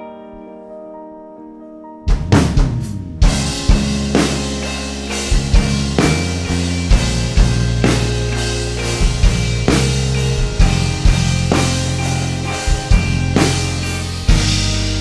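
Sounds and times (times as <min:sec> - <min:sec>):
instrumental band music: 0:01.8 - 0:15.0
drum kit hitting: 0:02.1 - 0:15.0.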